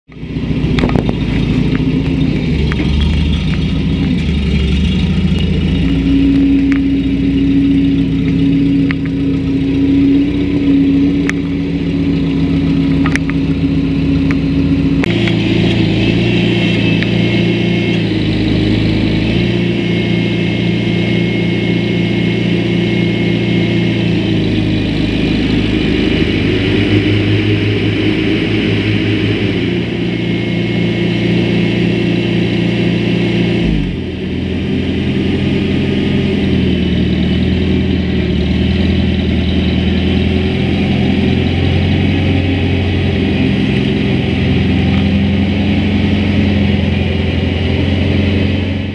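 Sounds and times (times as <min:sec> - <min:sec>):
high steady whine: 0:00.1 - 0:48.9
tractor engine running: 0:00.1 - 0:48.9.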